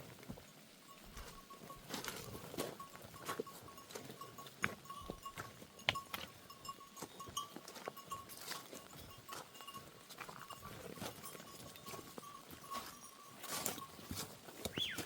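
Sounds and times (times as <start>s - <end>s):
hoof clicks and knocks: 0.0s - 15.0s.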